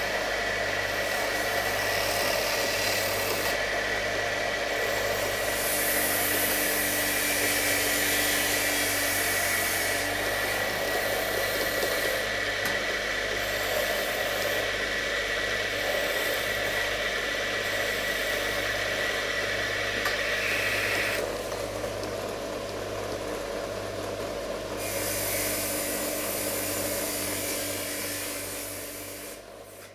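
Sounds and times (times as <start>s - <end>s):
hiss: 0.0s - 3.6s, 4.7s - 21.2s, 24.8s - 29.9s
lathe motor hum and whine: 0.0s - 29.9s.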